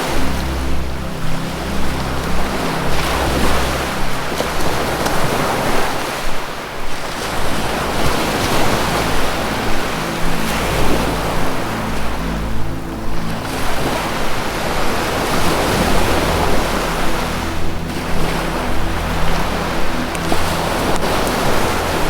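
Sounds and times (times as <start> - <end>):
low music drone: 0.0 - 22.0
ocean surf: 0.0 - 22.0.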